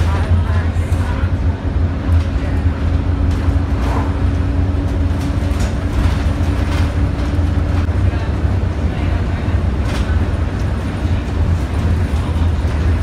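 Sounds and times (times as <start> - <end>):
bus engine and road rumble: 0.0 - 13.0
constant hum: 0.0 - 13.0.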